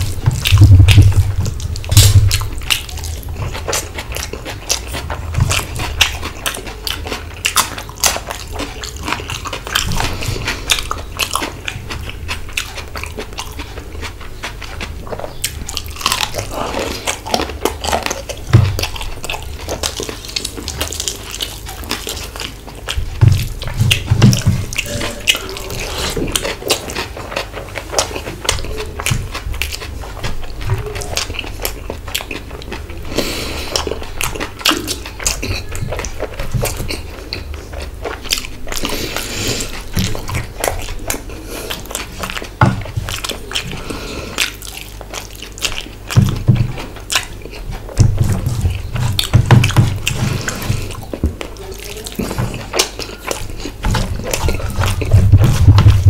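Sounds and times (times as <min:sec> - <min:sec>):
wet chewing and mouth sounds: 0:00.0 - 0:56.0.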